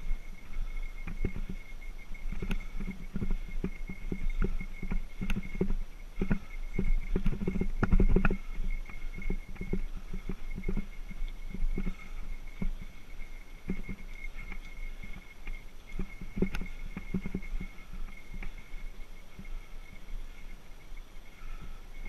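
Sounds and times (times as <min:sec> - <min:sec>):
bike knocks and rattles: 0:00.0 - 0:20.1
faint steady high tone: 0:00.0 - 0:22.0.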